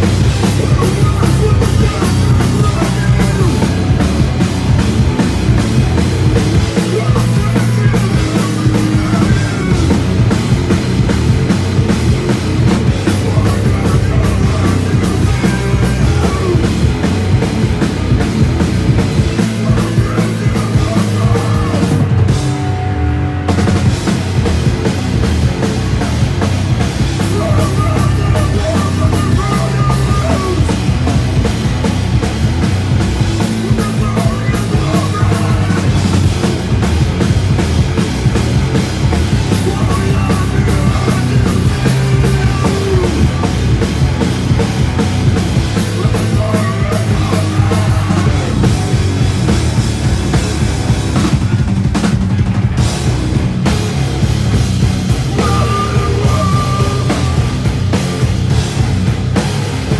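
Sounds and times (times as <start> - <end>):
drum kit: 0.0 - 59.9
rock band playing: 0.0 - 59.9.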